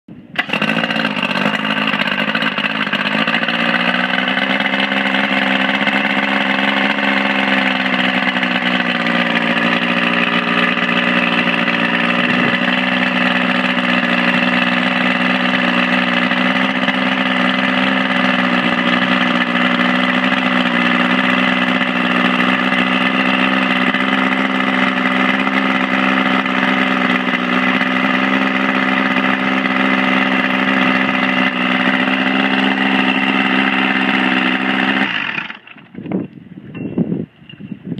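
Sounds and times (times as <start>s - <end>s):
outboard motor idling: 0.4s - 36.3s.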